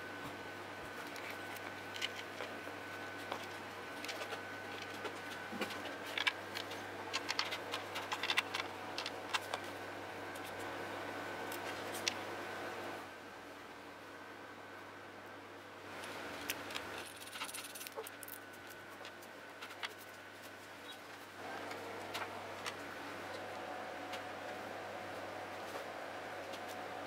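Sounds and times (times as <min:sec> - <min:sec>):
faint hum: 0:00.0 - 0:27.0.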